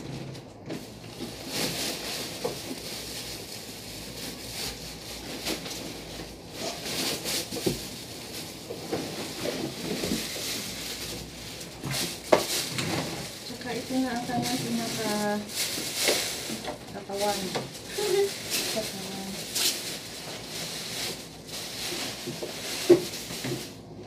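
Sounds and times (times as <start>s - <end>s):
plastic and cardboard rustling: 0.0s - 24.0s.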